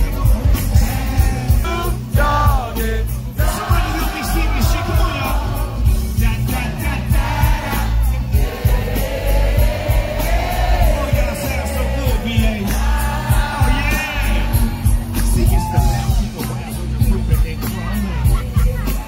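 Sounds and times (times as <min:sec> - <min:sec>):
music with heavy bass beat: 0:00.0 - 0:19.0.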